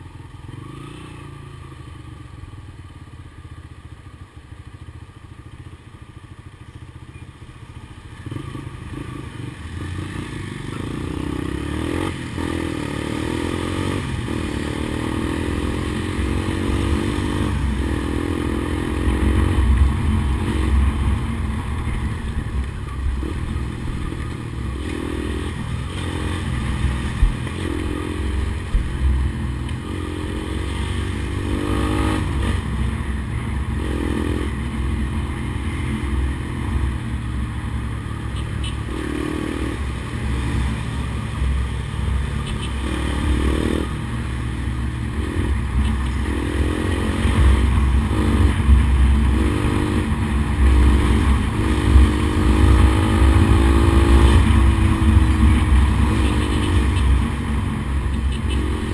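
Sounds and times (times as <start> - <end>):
motorcycle engine accelerating: 6.4 - 58.9.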